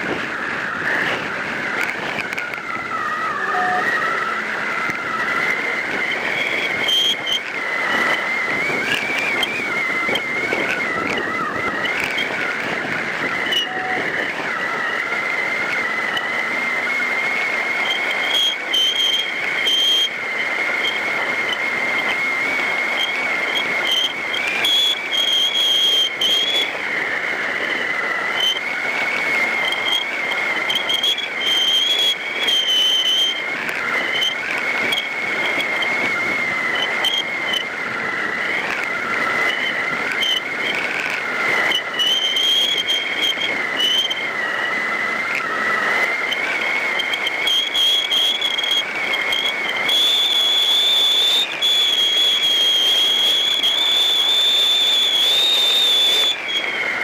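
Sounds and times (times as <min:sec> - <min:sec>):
higher whistle: 0:00.0 - 0:57.0
rushing wind: 0:00.0 - 0:57.0
wavering whistling tone: 0:00.0 - 0:57.0.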